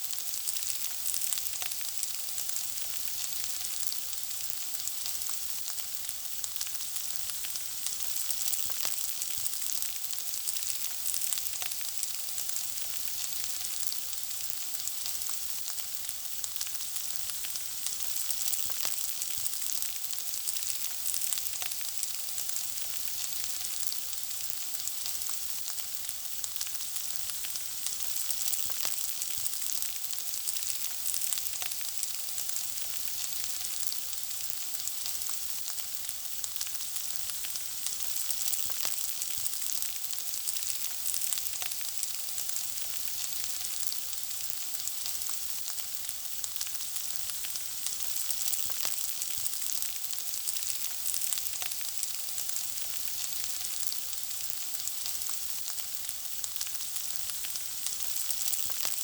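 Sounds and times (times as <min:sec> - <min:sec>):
food sizzling while frying: 0:00.0 - 0:59.0
small crackles and pops: 0:00.0 - 0:59.0.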